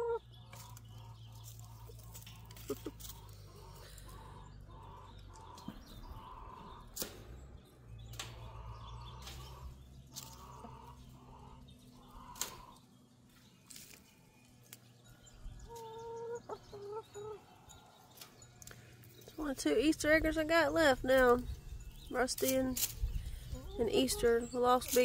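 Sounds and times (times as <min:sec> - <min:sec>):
birds calling softly: 0:00.0 - 0:25.0.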